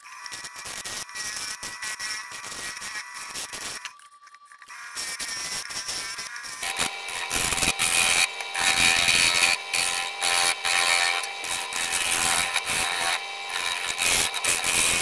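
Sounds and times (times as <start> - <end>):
lathe gouge scraping wood: 0.0 - 3.9, 4.7 - 15.0.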